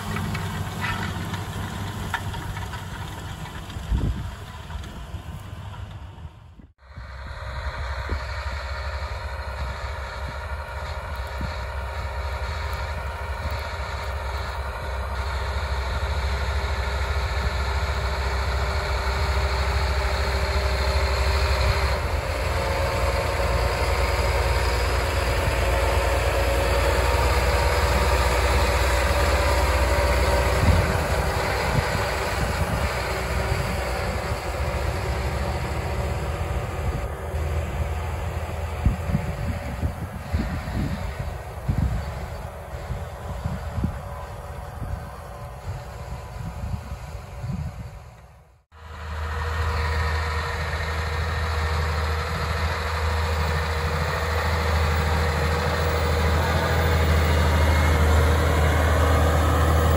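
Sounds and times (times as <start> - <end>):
tractor engine and track rumble: 0.0 - 59.9.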